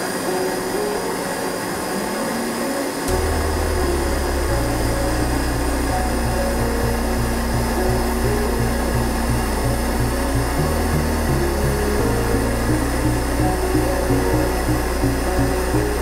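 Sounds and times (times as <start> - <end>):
music with pulsing bass: 3.1 - 16.0.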